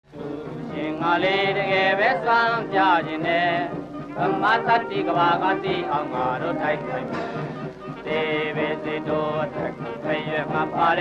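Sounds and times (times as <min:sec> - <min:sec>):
chanting vocal: 0:00.1 - 0:11.0.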